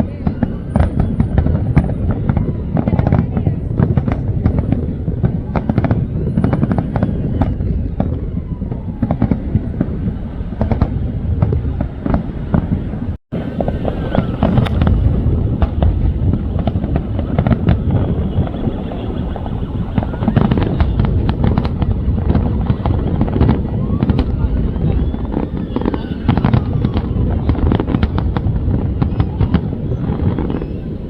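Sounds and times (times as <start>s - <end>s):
fireworks bangs and crackles: 0.0s - 31.0s
low rumble: 0.8s - 31.0s.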